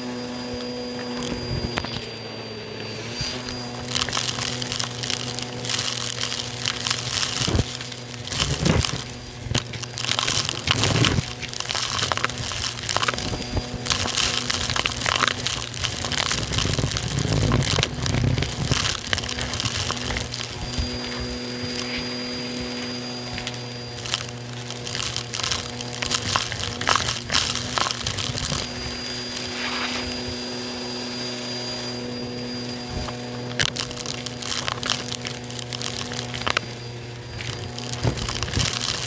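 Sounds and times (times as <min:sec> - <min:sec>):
debris crackling through vacuum hose: 0:00.0 - 0:39.0
vacuum motor humming: 0:00.0 - 0:39.0.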